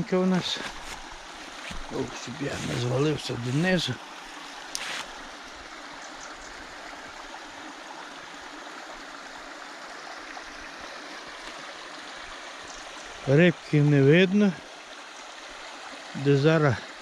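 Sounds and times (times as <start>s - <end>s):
stream flowing: 0.0s - 17.0s.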